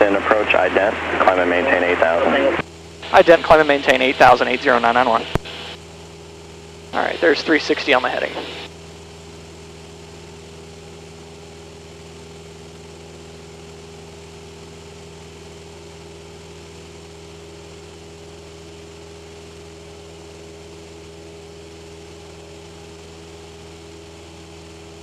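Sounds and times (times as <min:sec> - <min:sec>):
propeller plane engine droning: 0:00.0 - 0:25.0.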